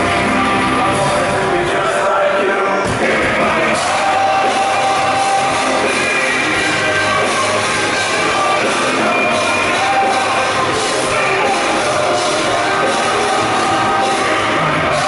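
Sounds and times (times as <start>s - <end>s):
electric guitar: 0.0s - 15.0s
rock band playing loud: 0.0s - 15.0s.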